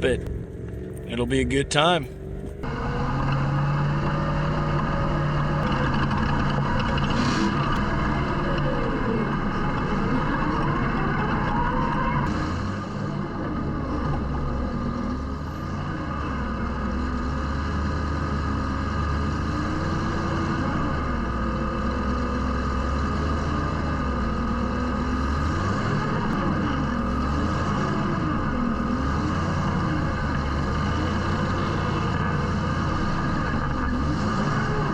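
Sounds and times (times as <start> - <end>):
engine revving under load: 0.0 - 34.9.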